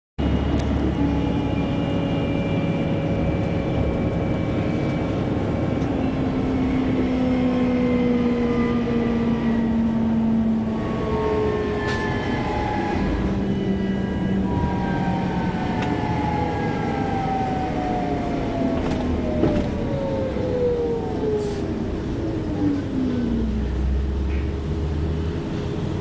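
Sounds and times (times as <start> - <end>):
bus diesel engine rumbling: 0.2 - 26.0.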